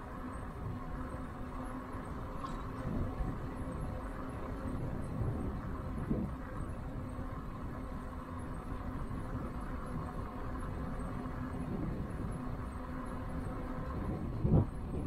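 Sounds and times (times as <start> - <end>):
faint steady hum: 0.0 - 15.0
tyres and wind rumble: 0.0 - 15.0.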